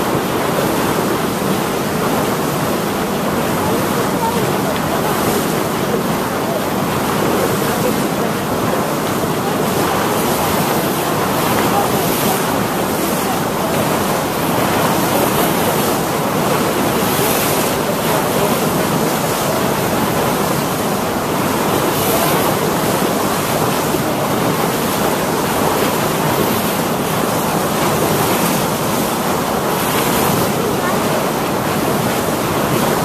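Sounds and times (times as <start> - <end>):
water rushing past boat: 0.0 - 33.0.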